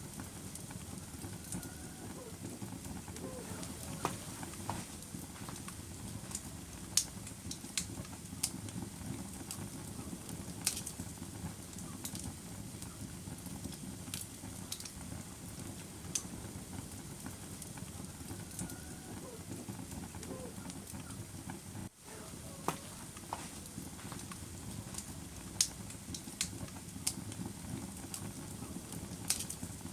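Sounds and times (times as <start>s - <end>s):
fire crackles and pops: 0.0s - 29.9s
wood fire low roar: 0.0s - 29.9s.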